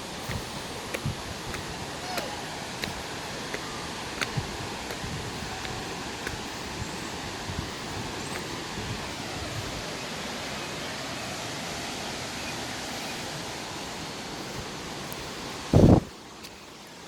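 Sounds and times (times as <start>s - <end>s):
waterfall rushing: 0.0s - 16.3s.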